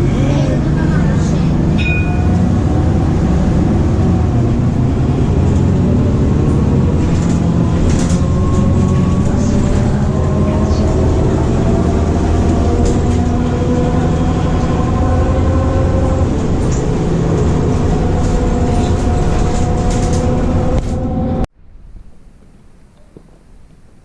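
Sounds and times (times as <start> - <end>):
vehicle low rumble: 0.0 - 24.0.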